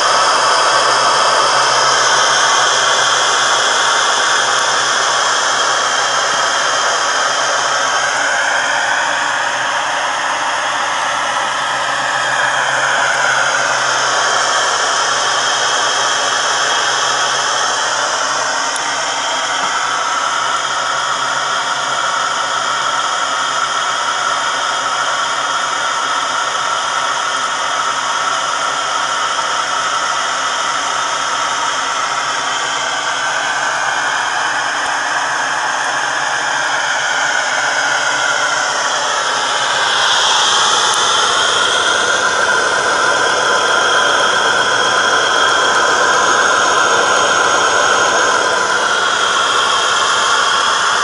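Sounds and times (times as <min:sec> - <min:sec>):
engine whirring hiss: 0:00.0 - 0:51.0.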